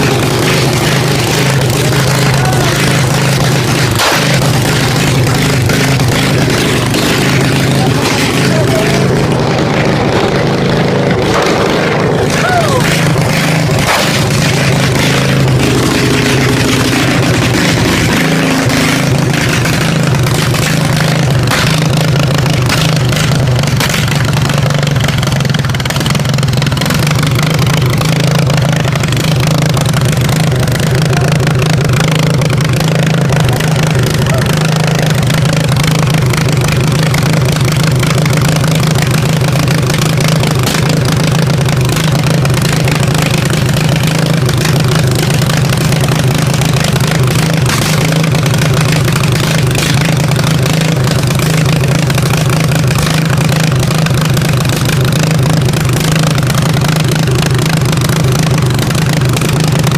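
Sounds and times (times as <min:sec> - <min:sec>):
riding lawnmower engine running: 0:00.0 - 0:59.9.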